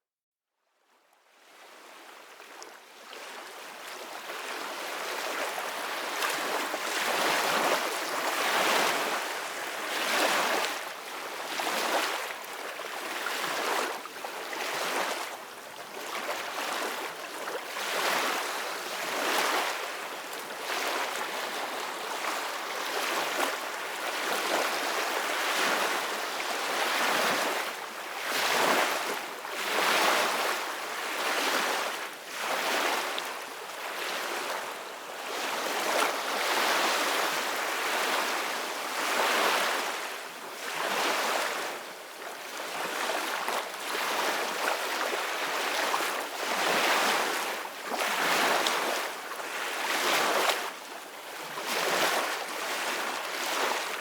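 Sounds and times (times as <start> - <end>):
ocean waves breaking on beach: 3.2 - 54.0.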